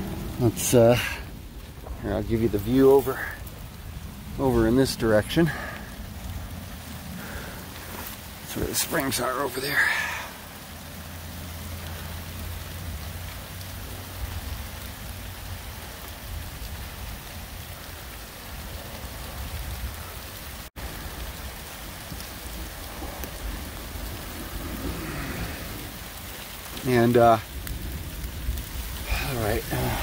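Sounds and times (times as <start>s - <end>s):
heavy rain pouring: 0.0s - 30.0s
low thunder rumble: 0.0s - 30.0s.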